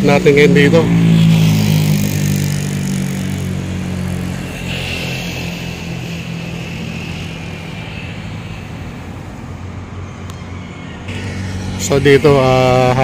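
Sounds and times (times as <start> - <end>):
engine drone: 0.0 - 13.0
outdoor noise: 0.0 - 13.0.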